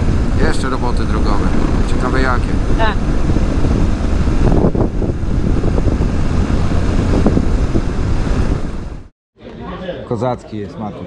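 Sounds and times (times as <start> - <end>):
wind rushing over microphone: 0.0 - 9.1.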